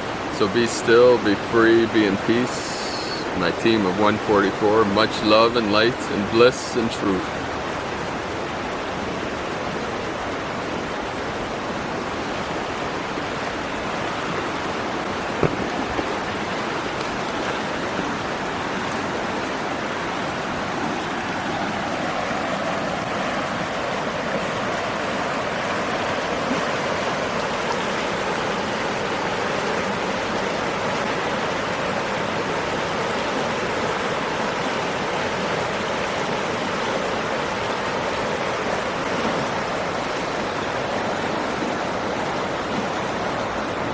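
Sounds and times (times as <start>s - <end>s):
rushing water noise: 0.0s - 43.9s.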